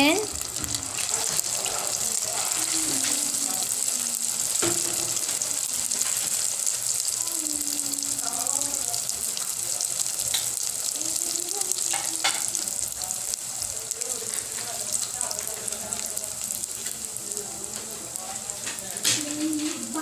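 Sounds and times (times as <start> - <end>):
deep-frying sizzle: 0.0 - 20.0.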